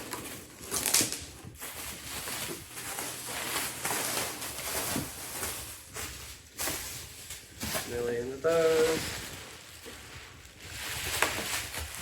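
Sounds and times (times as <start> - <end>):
cardboard box rustling and crinkling: 0.0 - 12.0.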